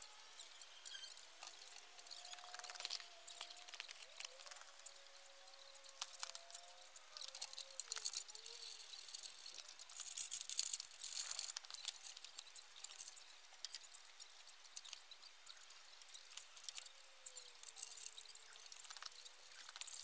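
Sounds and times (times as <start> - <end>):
metal parts clinking and rattling: 0.0 - 20.0.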